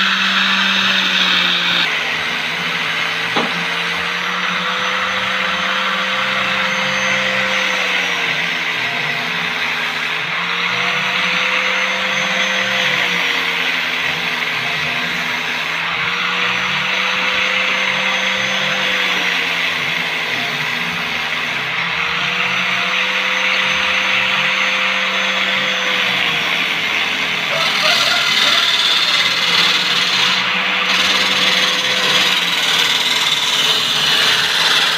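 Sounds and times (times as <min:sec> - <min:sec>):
lathe motor humming and whining: 0:00.0 - 0:34.9.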